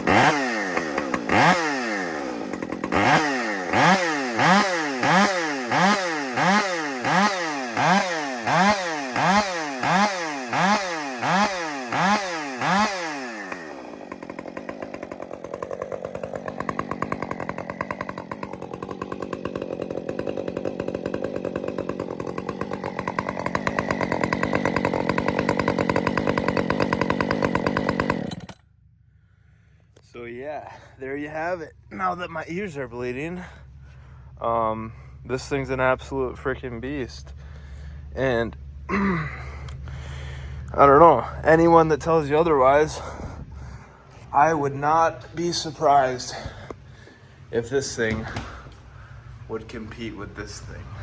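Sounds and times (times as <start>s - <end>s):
chainsaw revving and idling: 0.0s - 28.6s, 30.7s - 51.0s.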